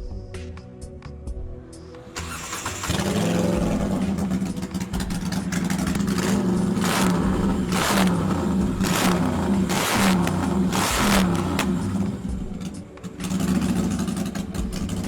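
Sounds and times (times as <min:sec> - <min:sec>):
motorcycle engine running: 0:02.2 - 0:15.0
motorcycle throttle blips: 0:02.2 - 0:15.0.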